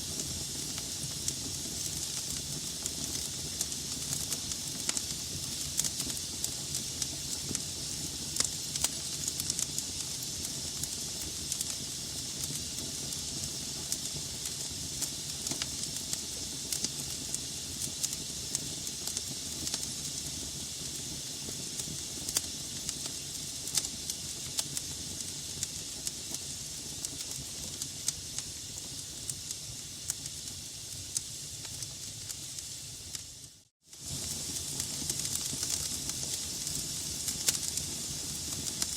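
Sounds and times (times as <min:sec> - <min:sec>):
log fire crackling: 0:00.0 - 0:38.9.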